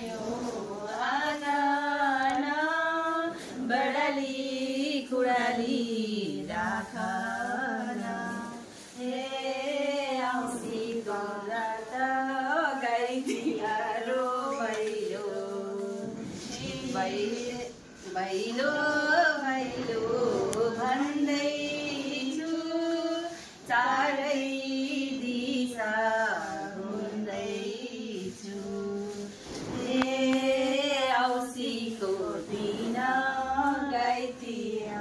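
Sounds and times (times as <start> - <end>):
women singing unaccompanied: 0.0 - 35.0.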